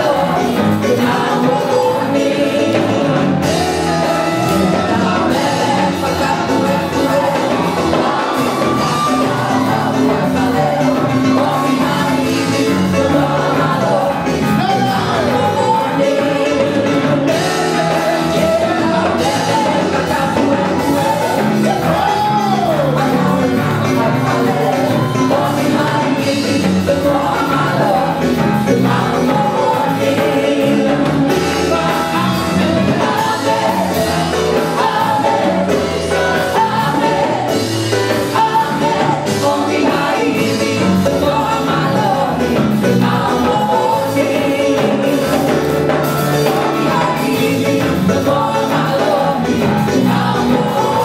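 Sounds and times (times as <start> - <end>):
drum kit: 0.0 - 51.0
gospel band playing: 0.0 - 51.0
people singing: 0.0 - 51.0.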